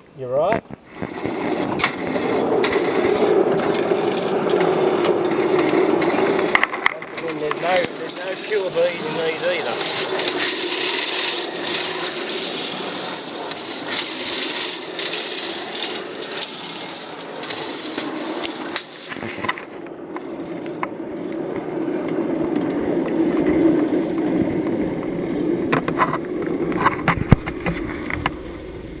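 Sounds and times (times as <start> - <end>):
trolley rattling: 1.0 - 27.8.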